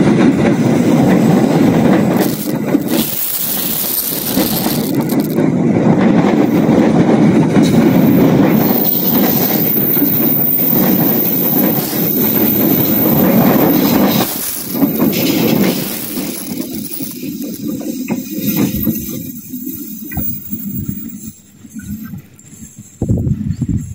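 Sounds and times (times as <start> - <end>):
train wheels rumbling on rails: 0.0 - 23.9
wheels clickety-clack: 0.0 - 23.9.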